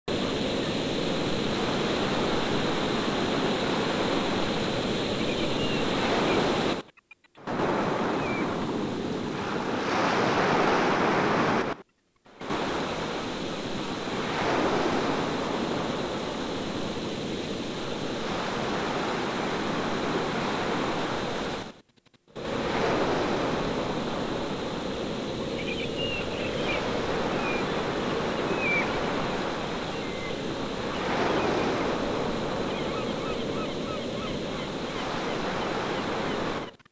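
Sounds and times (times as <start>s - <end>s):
ocean surf and rushing water: 0.1s - 21.8s, 22.4s - 36.9s.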